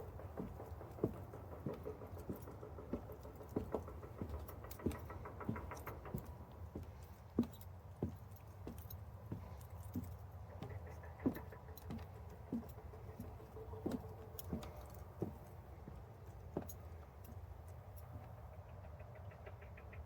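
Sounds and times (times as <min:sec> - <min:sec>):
footsteps walking: 0:00.0 - 0:17.4
low hum of passing traffic: 0:00.0 - 0:20.0.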